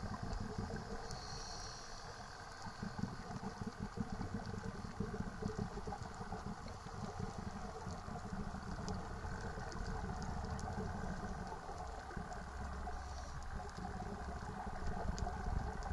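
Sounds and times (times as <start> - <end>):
regulator breathing and bubbles: 0.0 - 15.9
faint clicks: 0.1 - 15.9.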